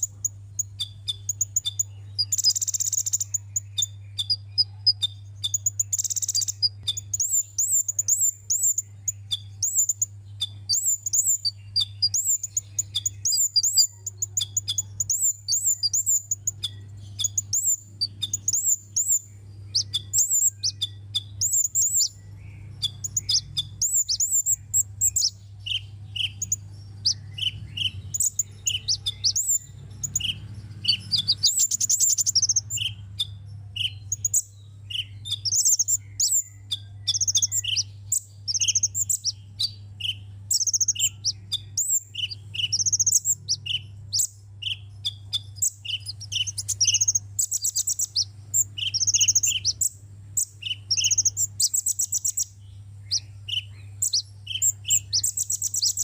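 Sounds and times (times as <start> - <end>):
steady low hum: 0.0 - 56.0
sunbird chirping and twittering: 0.0 - 56.0.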